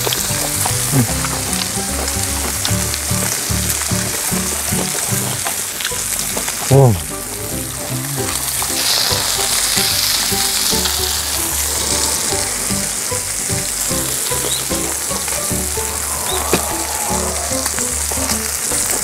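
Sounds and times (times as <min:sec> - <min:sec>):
pork sizzling on hot stone: 0:00.0 - 0:19.0.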